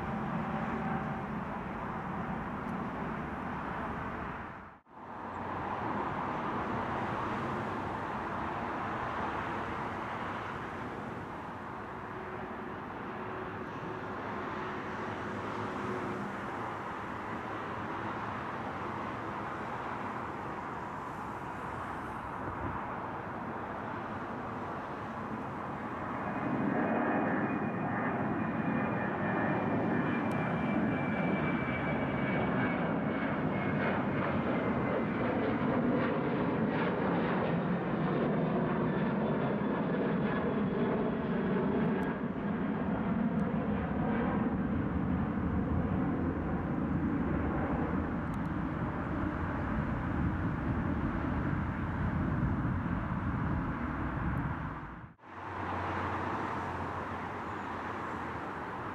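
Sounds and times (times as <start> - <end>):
jet engines passing overhead: 0.0 - 58.9.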